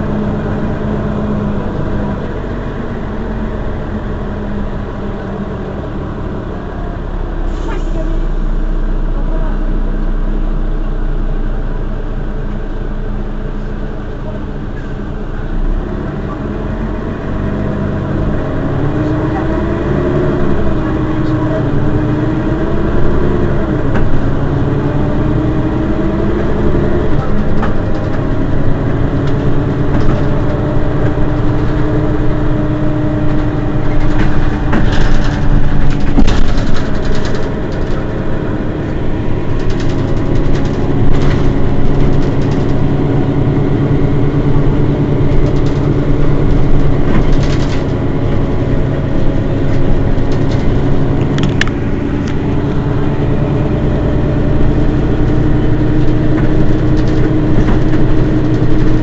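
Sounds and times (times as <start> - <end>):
bus engine idling: 0.0 - 59.0.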